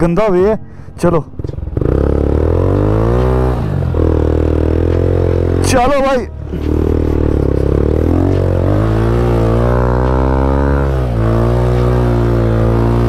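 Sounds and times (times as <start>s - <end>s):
motorcycle engine revving: 1.2s - 13.0s.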